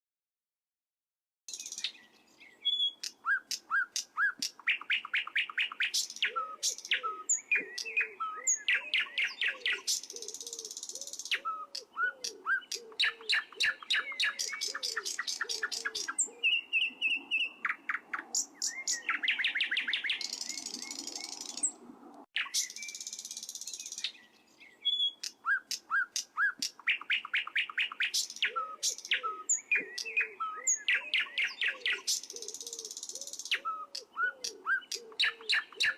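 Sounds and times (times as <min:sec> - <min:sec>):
birds chirping and trilling: 0:01.5 - 0:35.9
buzzy bird calls: 0:02.7 - 0:21.8, 0:24.9 - 0:35.9.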